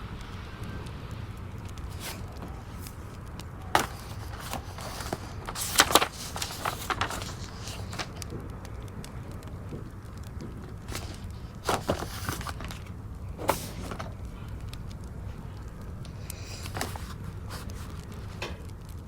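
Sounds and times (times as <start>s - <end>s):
wood fire crackling: 1.3s - 19.0s.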